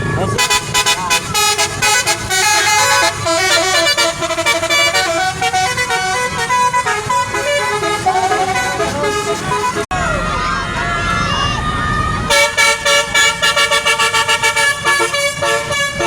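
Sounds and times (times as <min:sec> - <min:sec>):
air horns playing a melody: 0:00.4 - 0:09.9, 0:12.3 - 0:16.0.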